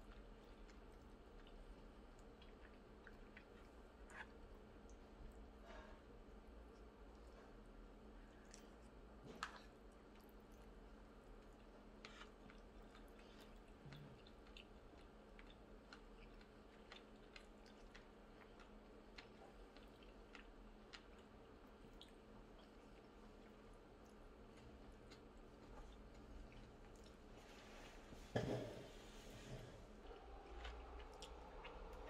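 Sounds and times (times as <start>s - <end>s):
soft chewing: 0.0s - 32.0s.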